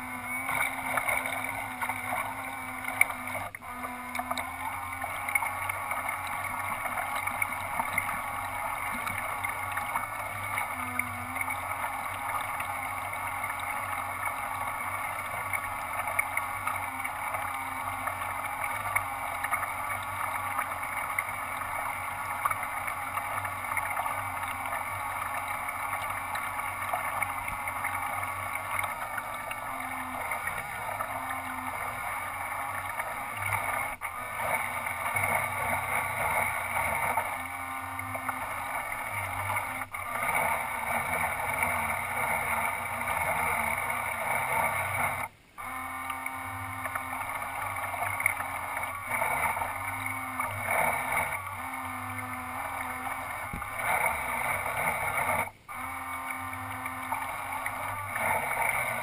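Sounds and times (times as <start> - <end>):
model boat motors running: 0.0 - 59.0
water splashing against hull: 0.0 - 59.0.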